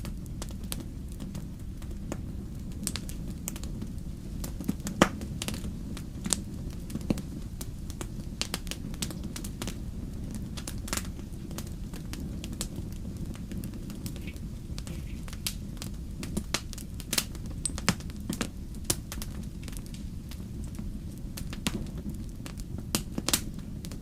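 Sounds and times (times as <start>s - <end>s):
fire popping: 0.0s - 24.0s
low rumble of flames: 0.0s - 24.0s.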